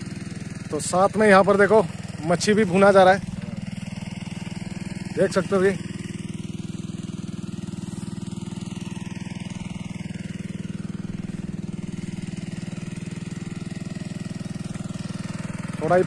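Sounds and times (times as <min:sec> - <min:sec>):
pump engine chugging: 0:00.0 - 0:16.0.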